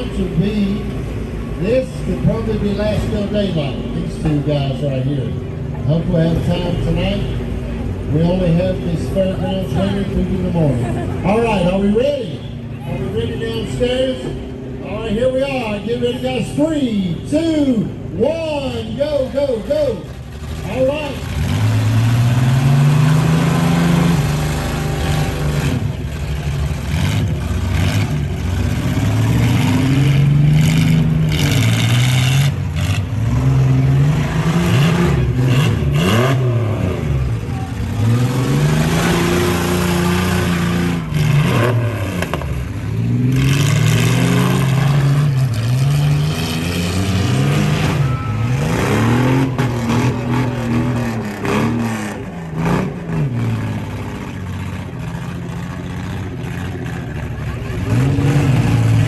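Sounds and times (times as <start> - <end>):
engines revving: 0.0 - 59.0.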